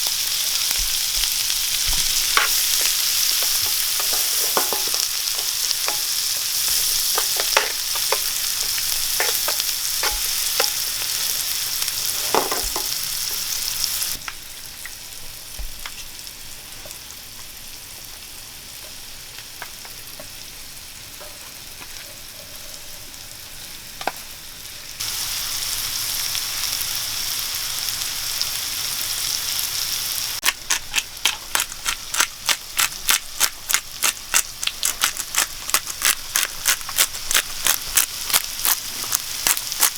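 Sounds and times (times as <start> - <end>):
food sizzling in a hot pan: 0.0 - 39.9.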